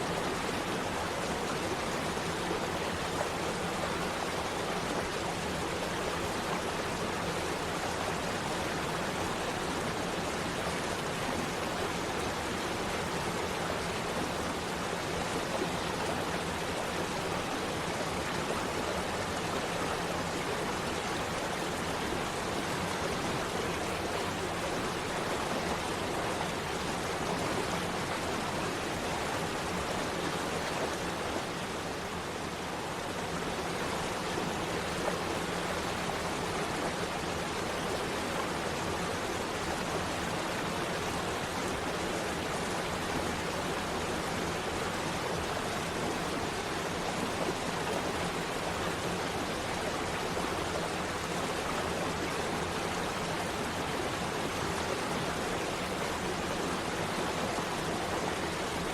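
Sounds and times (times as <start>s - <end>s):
waterfall rushing and splashing: 0.0s - 58.9s.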